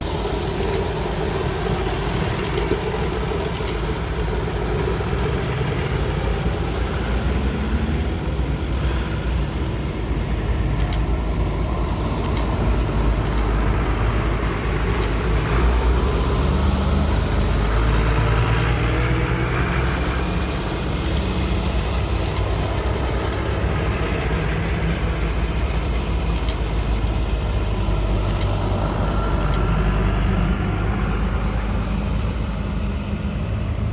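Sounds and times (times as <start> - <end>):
tractor engines rumbling: 0.0 - 33.9.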